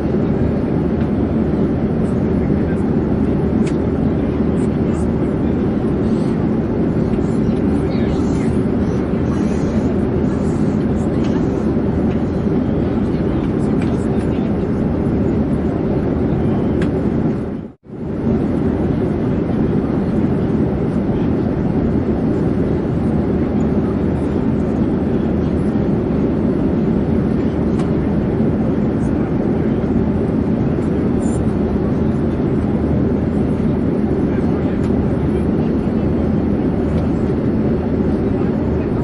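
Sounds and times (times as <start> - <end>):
airplane engine rumble in flight: 0.0 - 39.0.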